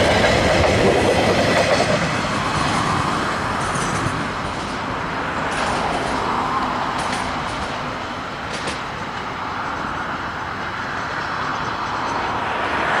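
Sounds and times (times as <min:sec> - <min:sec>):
freight wagons rolling on rails: 0:00.0 - 0:13.0.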